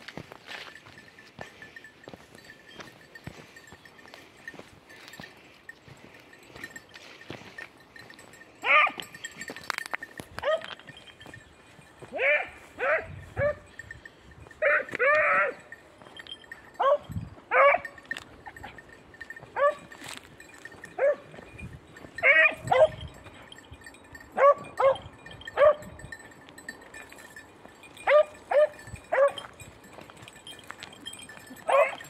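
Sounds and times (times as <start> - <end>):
hounds baying: 0.8 - 26.1, 27.9 - 32.0.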